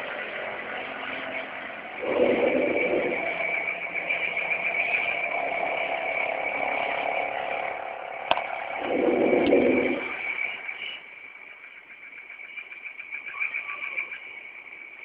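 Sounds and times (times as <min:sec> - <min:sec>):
metallic droning hum: 0:00.0 - 0:13.5.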